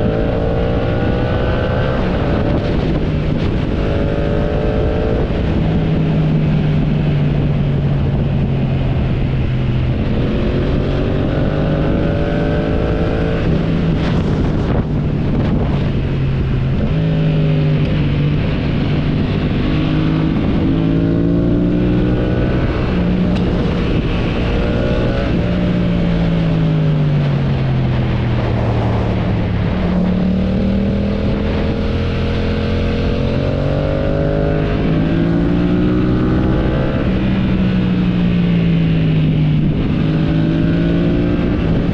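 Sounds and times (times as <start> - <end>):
motorcycle engine shifting gears: 0.0 - 41.9
wind rush on microphone: 0.0 - 41.9.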